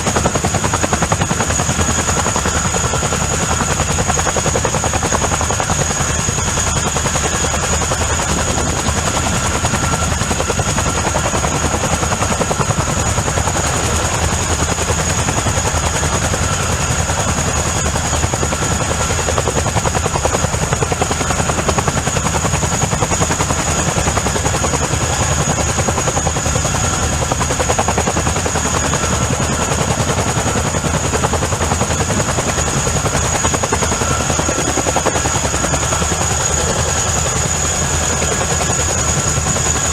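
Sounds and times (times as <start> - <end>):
helicopter rotor chop: 0.0 - 39.9
high turbine whine: 0.0 - 39.9.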